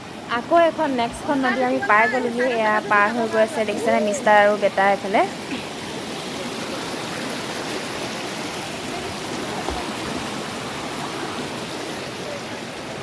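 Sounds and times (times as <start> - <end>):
small river flowing: 0.0 - 13.0.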